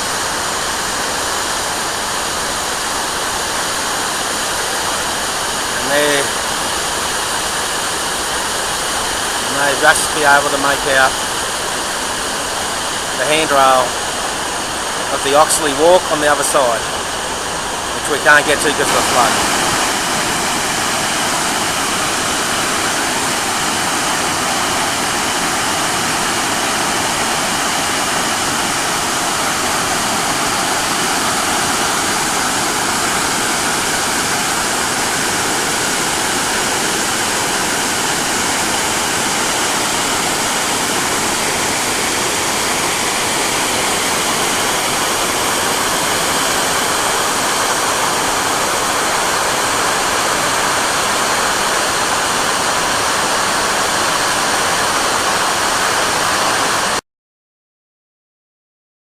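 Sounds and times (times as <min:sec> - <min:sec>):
rush of falling water: 0:00.0 - 0:57.0.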